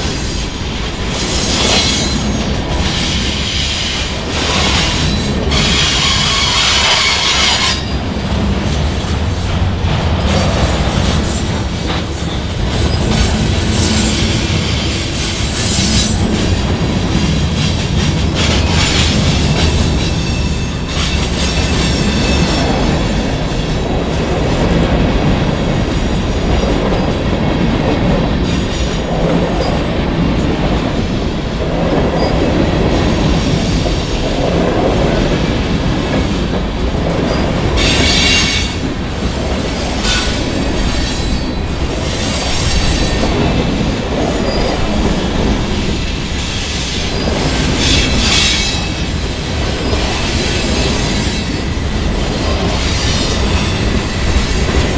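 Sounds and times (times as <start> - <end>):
freight train rumbling: 0.0 - 54.9.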